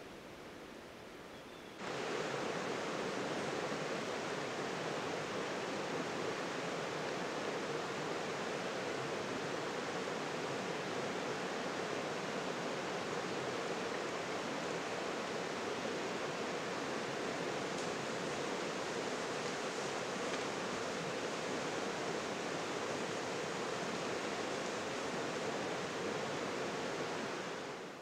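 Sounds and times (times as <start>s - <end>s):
flowing water rushing: 1.8s - 28.0s.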